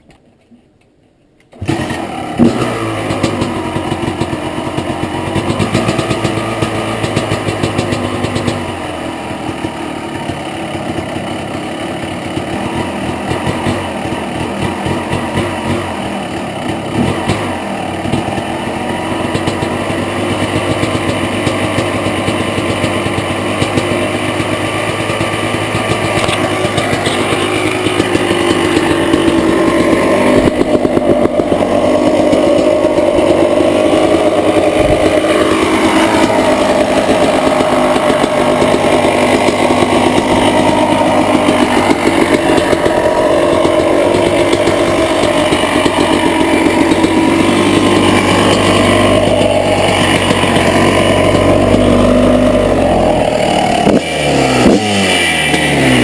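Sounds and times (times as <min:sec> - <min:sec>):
two-stroke motorcycle engine running: 0:01.5 - 0:56.0.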